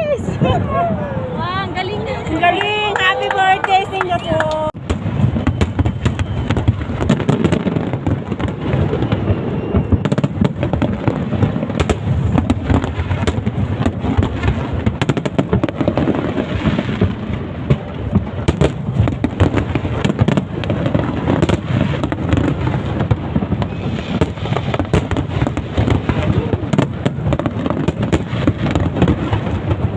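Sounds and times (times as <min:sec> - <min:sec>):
fireworks crackling: 0:00.0 - 0:29.9.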